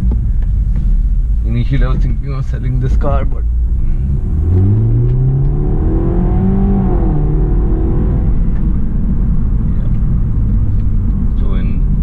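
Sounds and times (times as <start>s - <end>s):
car engine accelerating: 0.0s - 12.0s
low road rumble: 0.0s - 12.0s.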